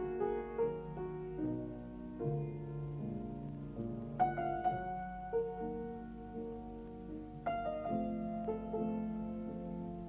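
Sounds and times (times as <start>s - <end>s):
slow solo piano music: 0.0s - 10.0s.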